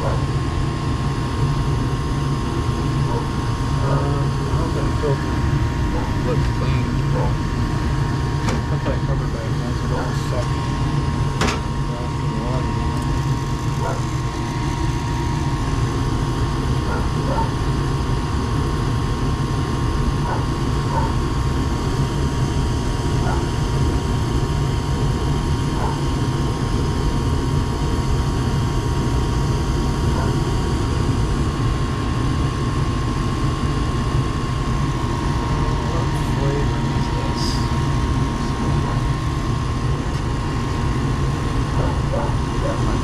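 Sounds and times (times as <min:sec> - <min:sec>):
gas furnace running: 0:00.0 - 0:43.0
thin steady whine: 0:00.0 - 0:43.0.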